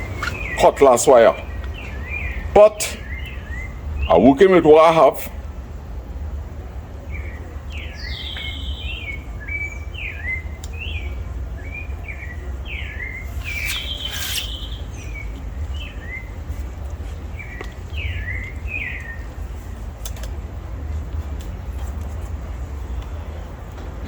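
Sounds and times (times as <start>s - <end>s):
songbirds chirping: 0.0s - 23.8s.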